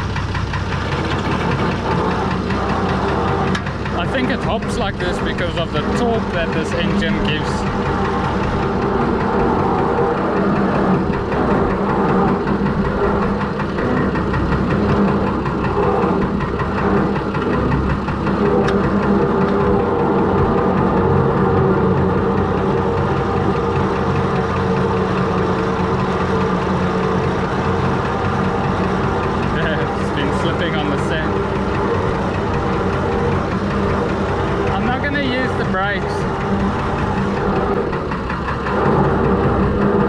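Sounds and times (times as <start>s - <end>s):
diesel tractor engine knocking: 0.0s - 40.0s.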